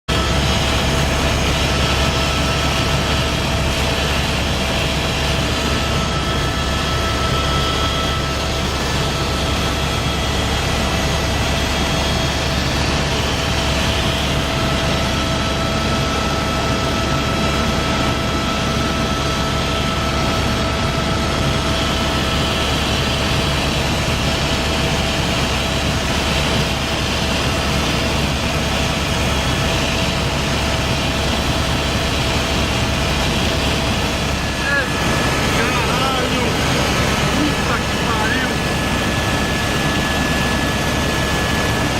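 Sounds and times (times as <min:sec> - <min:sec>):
helicopter engine and rotor drone: 0:00.1 - 0:41.9
high whine: 0:00.1 - 0:41.9.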